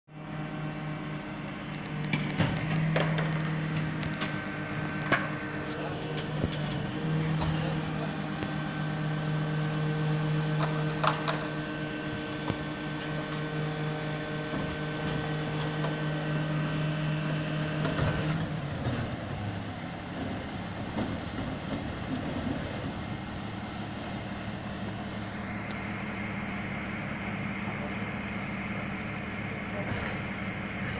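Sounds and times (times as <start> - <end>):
garbage truck engine drone: 0.1 - 30.9.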